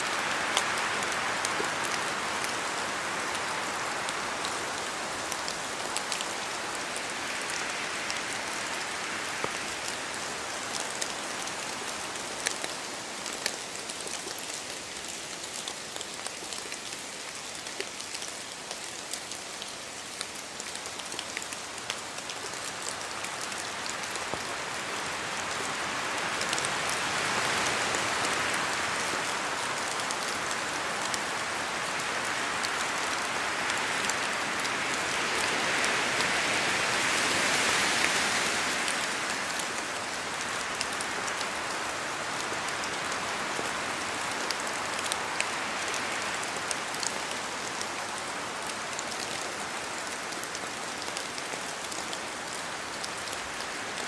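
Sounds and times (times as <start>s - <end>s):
rain falling through trees: 0.0s - 54.0s.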